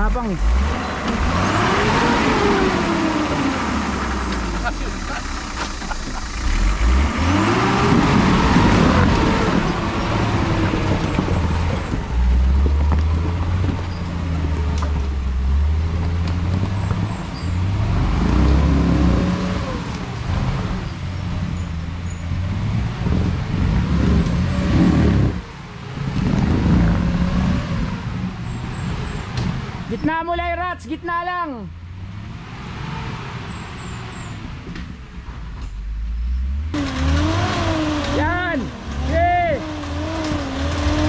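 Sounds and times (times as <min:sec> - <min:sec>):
off-road vehicle engine revving: 0:00.0 - 0:41.0.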